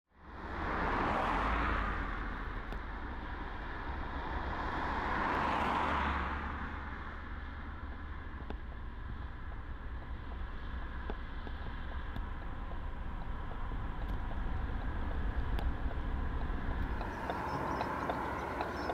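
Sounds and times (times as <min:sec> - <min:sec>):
vehicles passing: 0:00.1 - 0:18.9
distant traffic rumble: 0:00.2 - 0:18.9.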